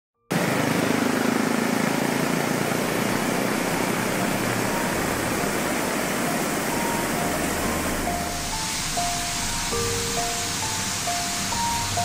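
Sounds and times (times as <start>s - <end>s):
waterfall rushing over rocks: 0.3s - 12.0s.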